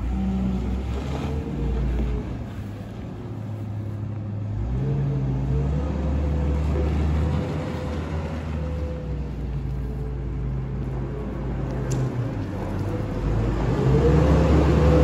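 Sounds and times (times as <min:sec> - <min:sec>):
wheel loader diesel engine running: 0:00.0 - 0:15.0.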